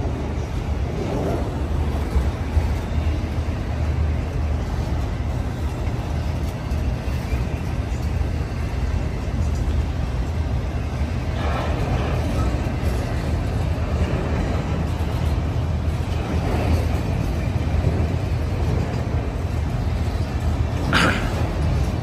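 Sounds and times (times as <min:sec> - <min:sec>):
freight train rolling past: 0:00.0 - 0:22.0.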